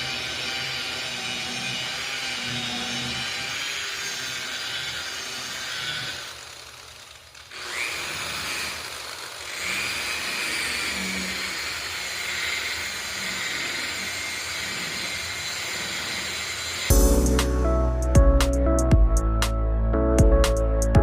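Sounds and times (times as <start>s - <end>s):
electric buffer whining: 0.0s - 18.6s.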